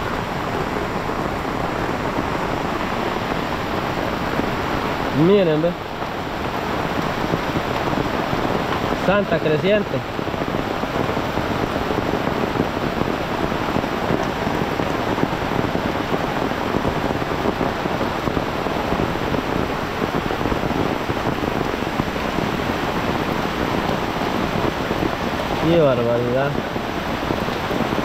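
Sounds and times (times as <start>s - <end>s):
heavy rain on an umbrella: 0.0s - 28.0s
river rushing: 0.0s - 28.0s.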